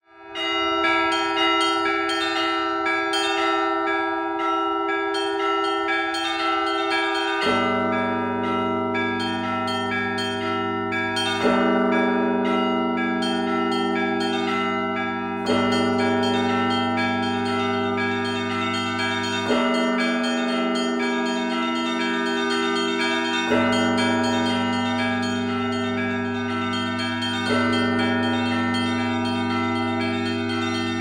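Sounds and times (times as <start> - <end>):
large bass bell: 0.0 - 31.0
middle bells ringing: 0.2 - 31.0
small bells ringing rapidly: 0.4 - 31.0.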